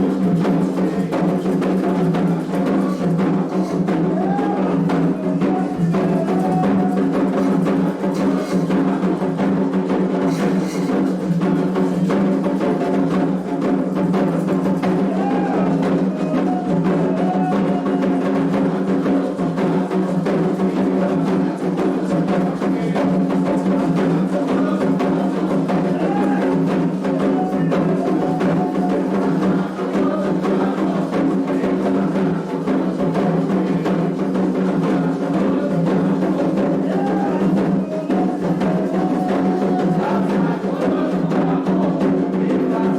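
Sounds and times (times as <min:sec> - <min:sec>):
hand drums fast rhythm: 0:00.0 - 0:42.9
people singing: 0:00.0 - 0:42.9.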